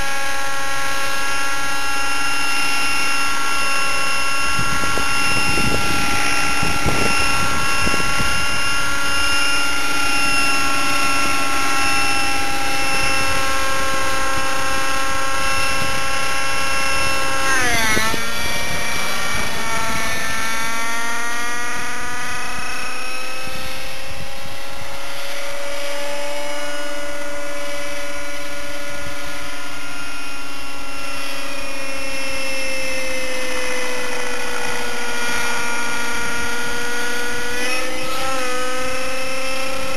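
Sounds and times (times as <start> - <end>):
model helicopter engine whining: 0.0 - 39.9.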